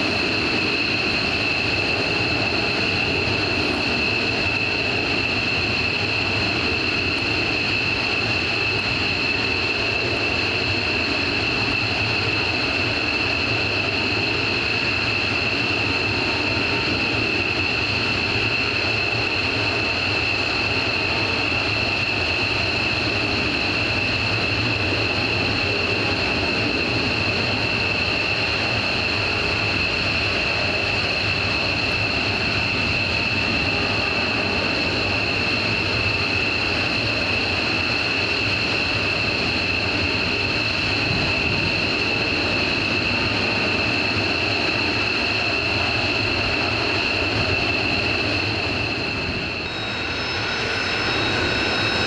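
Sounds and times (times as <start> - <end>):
jet engine high-pitched whine: 0.0 - 52.0
jet rumble: 0.0 - 52.0.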